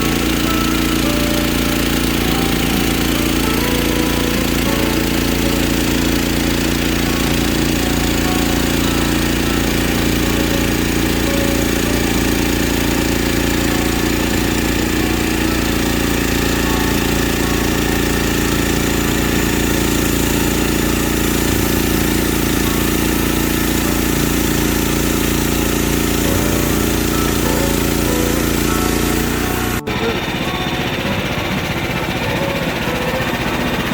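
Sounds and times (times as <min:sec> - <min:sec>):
engine running steadily: 0:00.0 - 0:33.9.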